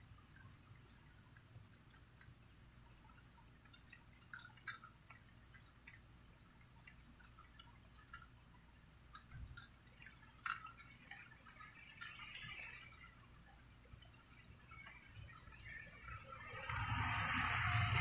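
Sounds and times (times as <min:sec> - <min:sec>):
faint water drips: 0:00.0 - 0:18.0.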